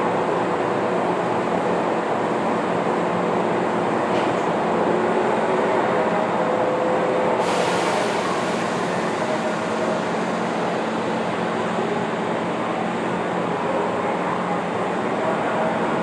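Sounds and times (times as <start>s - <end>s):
train equipment hum and hiss: 0.0s - 16.0s.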